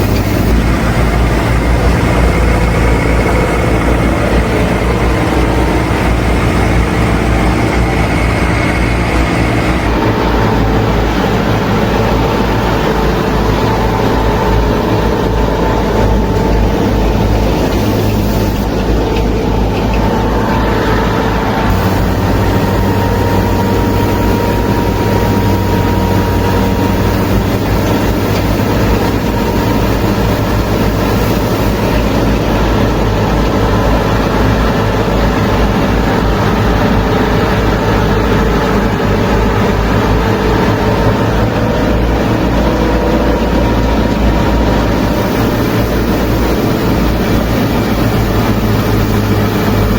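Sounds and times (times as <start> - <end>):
tractor motor running: 0.0 - 49.9.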